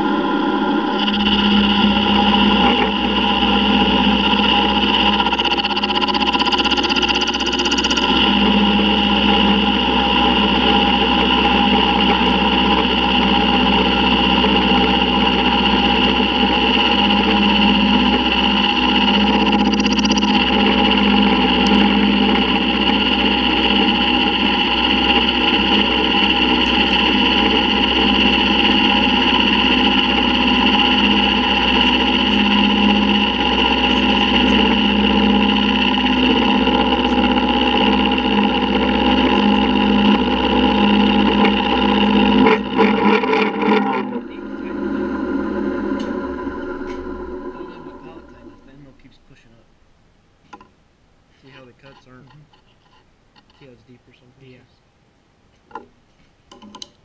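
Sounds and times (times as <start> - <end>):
milling machine cutting metal: 0.0 - 49.5.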